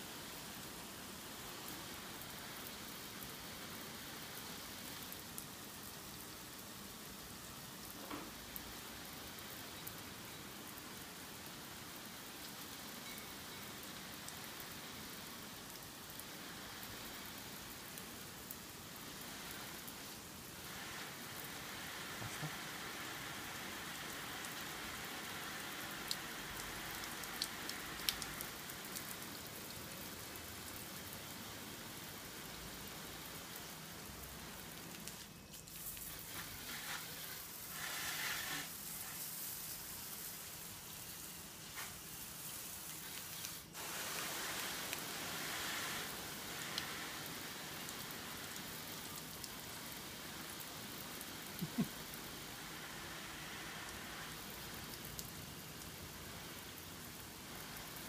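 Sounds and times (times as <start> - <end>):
water spray on plastic roof: 0.0 - 58.0.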